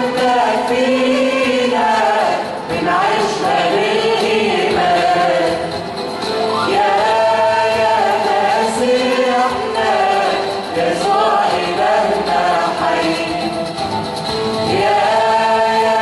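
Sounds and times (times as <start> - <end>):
church choir singing a hymn: 0.0 - 5.8, 6.5 - 13.5, 14.6 - 16.0.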